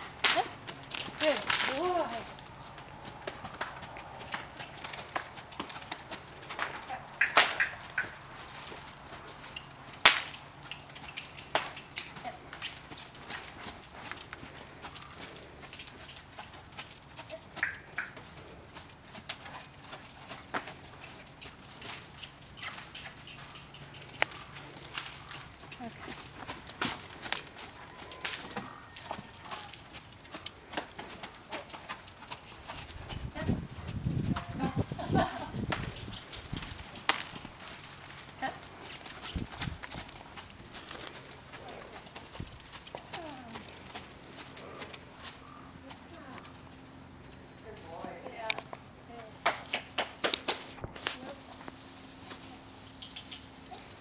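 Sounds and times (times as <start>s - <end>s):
horse hoofbeats on sand: 0.0s - 48.2s.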